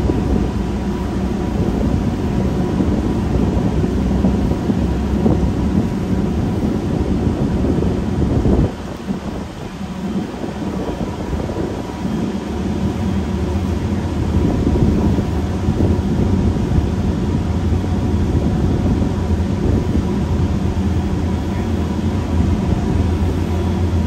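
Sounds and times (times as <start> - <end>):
ferry engines droning: 0.0 - 24.0
wind and water rushing: 0.0 - 24.0.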